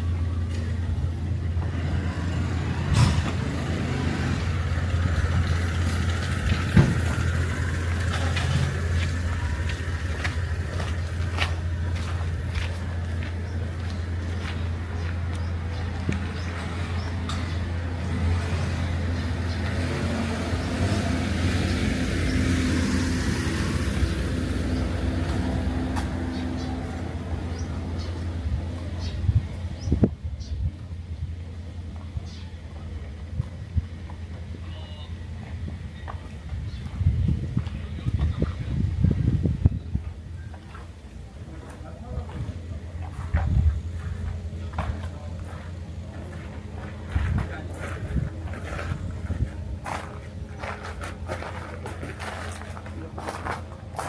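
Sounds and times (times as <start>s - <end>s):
vehicle engine humming: 0.0s - 54.0s.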